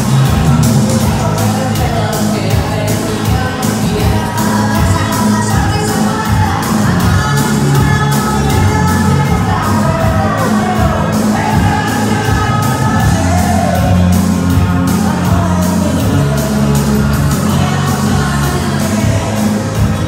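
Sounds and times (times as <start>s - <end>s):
loud dance music with singing: 0.0s - 20.0s.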